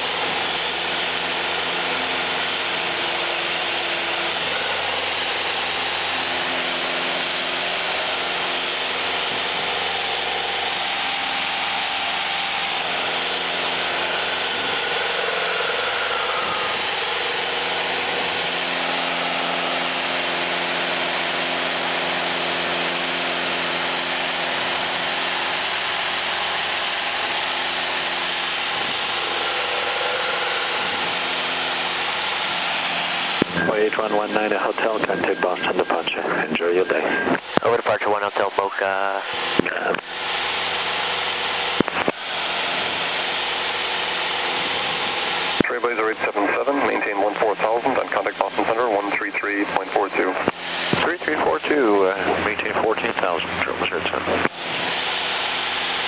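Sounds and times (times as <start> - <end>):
aircraft engine drone in cabin: 0.0 - 56.0.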